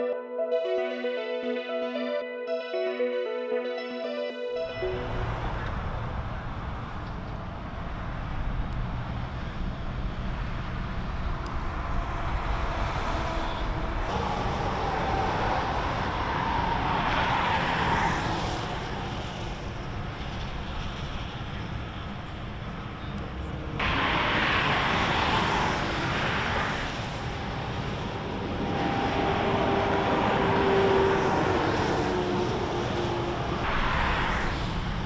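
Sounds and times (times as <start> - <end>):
vehicle passing: 4.7 - 22.0, 23.4 - 35.0
freeway traffic rumble: 4.7 - 35.0.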